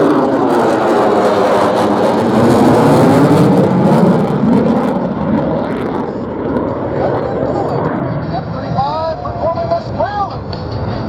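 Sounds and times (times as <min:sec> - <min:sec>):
jet flying past: 0:00.0 - 0:11.0.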